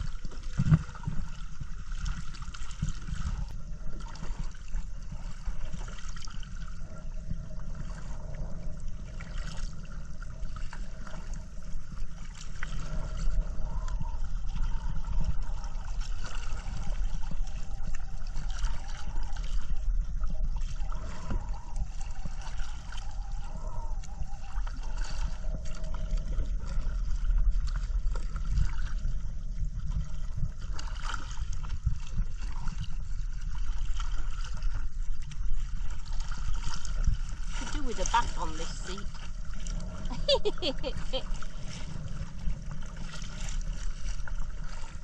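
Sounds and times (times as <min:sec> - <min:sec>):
low rumble: 0:00.0 - 0:45.0
water sloshing around kayak: 0:00.0 - 0:45.0.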